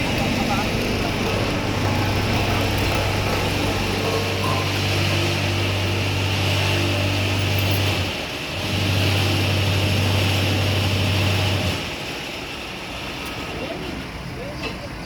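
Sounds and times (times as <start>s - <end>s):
engine running: 0.0s - 14.4s
vibratory road roller hum: 0.0s - 15.0s.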